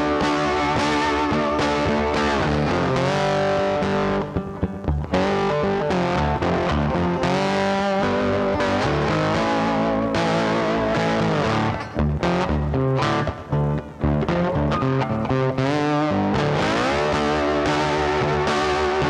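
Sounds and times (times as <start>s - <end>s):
rock music with distorted guitar: 0.0s - 19.0s.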